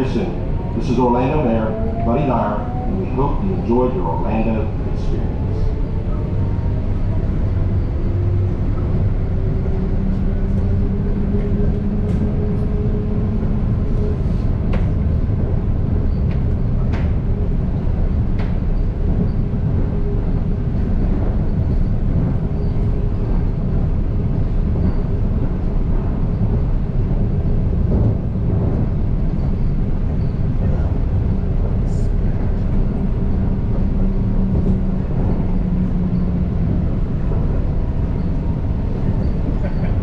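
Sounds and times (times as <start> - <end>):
tram rumble: 0.0 - 40.0.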